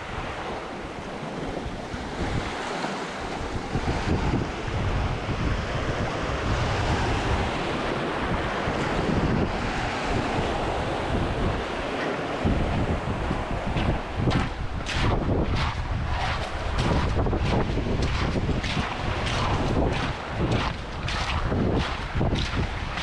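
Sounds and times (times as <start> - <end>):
sea waves washing: 0.0 - 23.0
wind buffeting microphone: 0.0 - 23.0.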